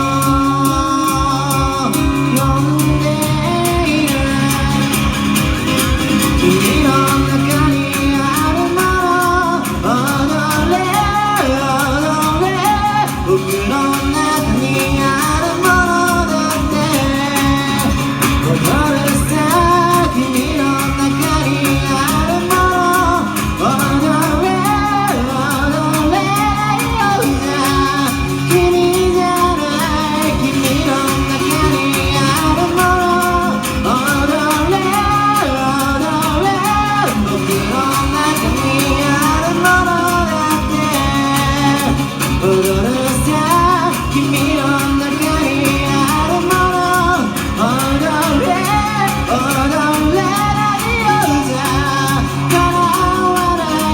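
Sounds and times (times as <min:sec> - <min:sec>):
instrumental backing with beat: 0:00.0 - 0:53.9
person singing: 0:00.0 - 0:53.9.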